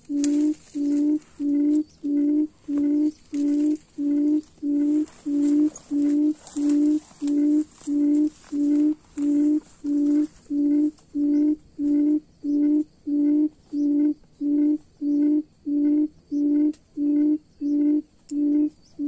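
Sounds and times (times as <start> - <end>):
quail hooting call: 0.0 - 19.0.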